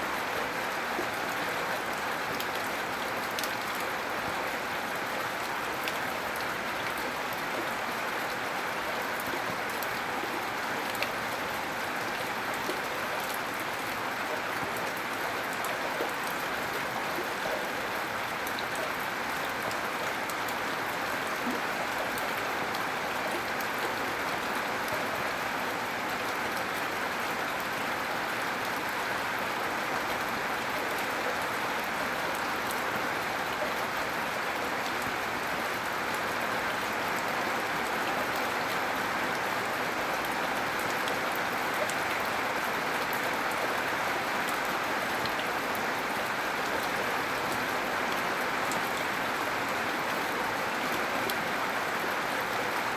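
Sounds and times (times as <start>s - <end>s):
gentle rain falling: 0.0s - 52.9s.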